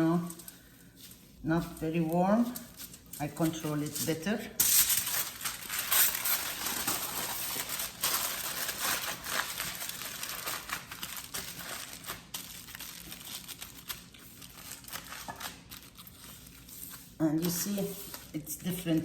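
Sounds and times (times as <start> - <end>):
wrapping sheet crinkling: 0.0 - 19.0.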